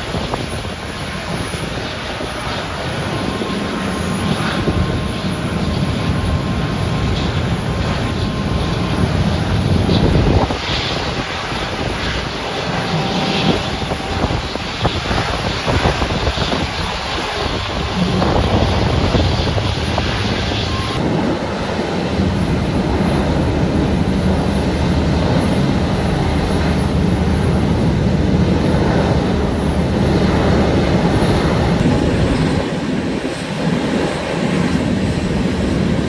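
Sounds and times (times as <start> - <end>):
airliner engines roaring: 0.0 - 36.0.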